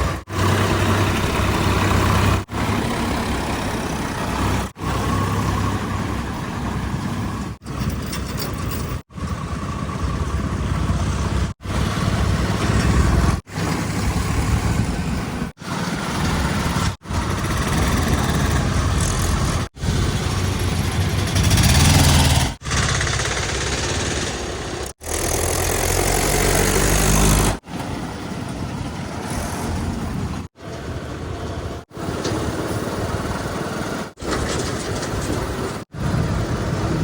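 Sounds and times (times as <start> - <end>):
heavy diesel engines revving: 0.0 - 37.0.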